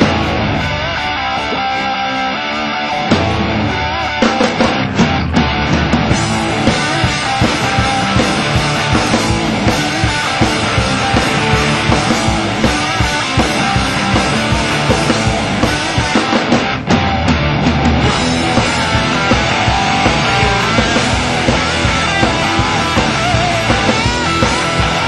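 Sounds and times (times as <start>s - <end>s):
loud rock music: 0.0s - 25.0s.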